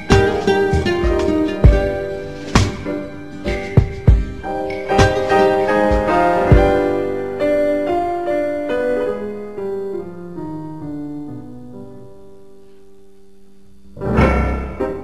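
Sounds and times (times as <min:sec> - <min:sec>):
slow piano notes: 0:00.0 - 0:15.0.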